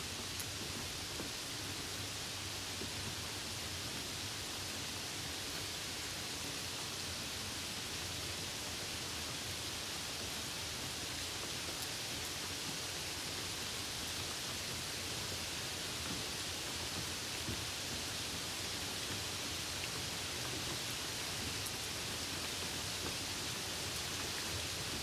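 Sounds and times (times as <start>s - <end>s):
rain and wet road hiss: 0.0s - 25.0s.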